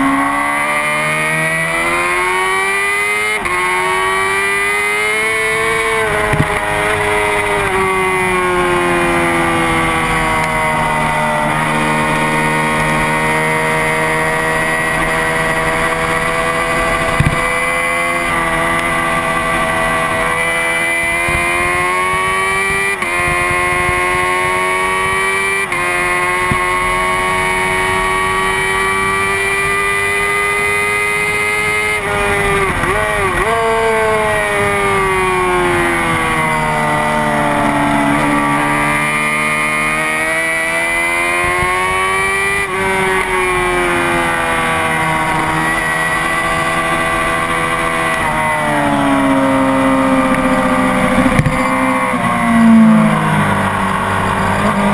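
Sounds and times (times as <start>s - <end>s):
motorcycle engine at high revs: 0.0s - 54.9s.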